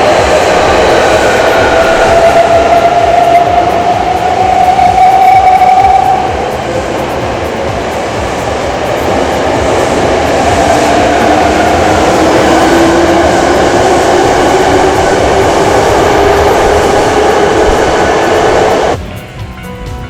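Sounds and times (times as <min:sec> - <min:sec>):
train motor whine: 0:00.0 - 0:19.0
electric train rail and wheel noise: 0:00.0 - 0:20.0.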